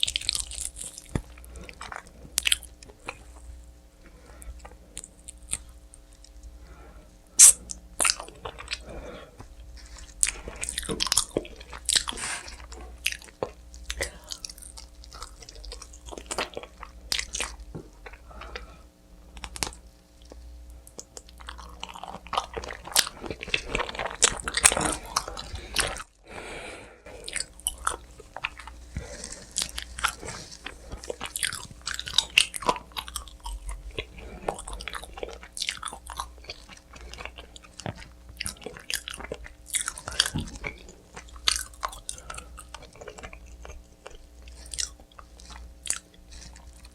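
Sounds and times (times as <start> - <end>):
chewing crunchy pizza crust: 0.0 - 46.9.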